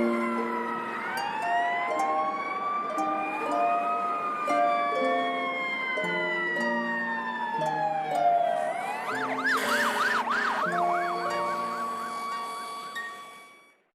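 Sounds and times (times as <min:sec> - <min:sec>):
fire truck siren: 0:00.0 - 0:13.9
simple children's tune: 0:00.0 - 0:13.9.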